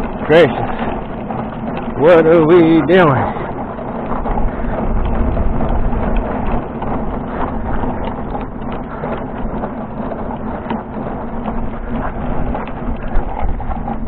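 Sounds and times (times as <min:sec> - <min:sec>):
footsteps: 0:00.0 - 0:14.0
low hum: 0:00.0 - 0:14.0.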